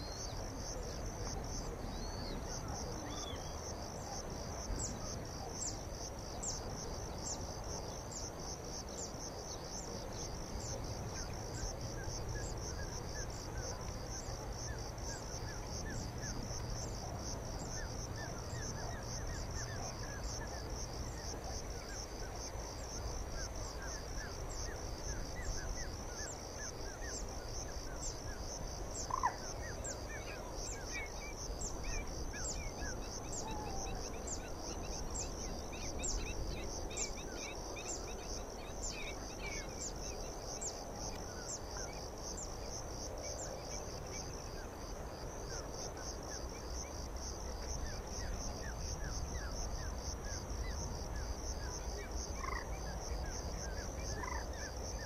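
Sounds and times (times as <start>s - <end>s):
faint insect chirping calls: 0.0s - 55.0s
insects trilling: 0.0s - 55.0s.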